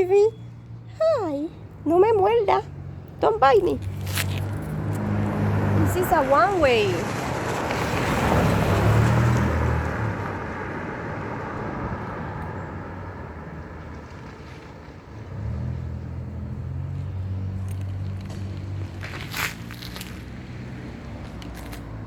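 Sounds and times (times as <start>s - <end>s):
car passing: 0.0s - 22.0s
vehicle engine hum: 0.0s - 22.0s.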